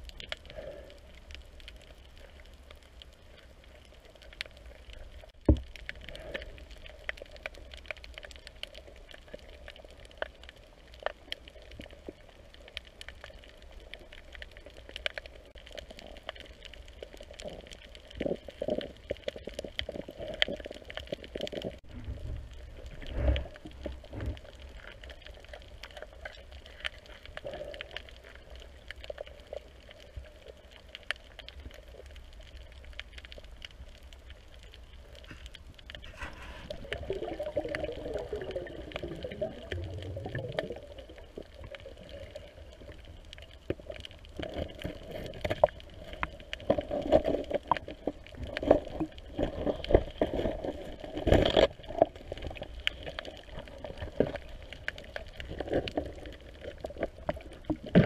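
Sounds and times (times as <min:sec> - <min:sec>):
faint underwater clicks: 0:00.0 - 0:58.0
underwater diver movement noise: 0:00.1 - 0:58.0.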